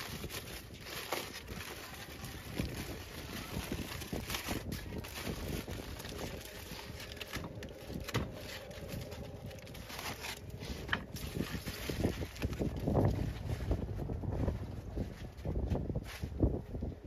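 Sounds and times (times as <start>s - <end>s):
aluminium foil crinkling: 0.0s - 14.0s
wind rumble on microphone: 0.0s - 17.0s.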